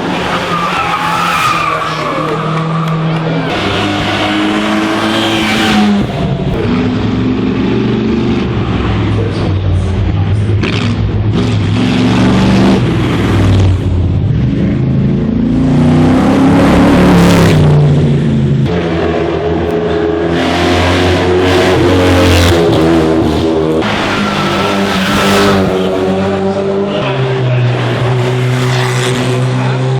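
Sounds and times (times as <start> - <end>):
race car engine accelerating: 0.0 - 29.9.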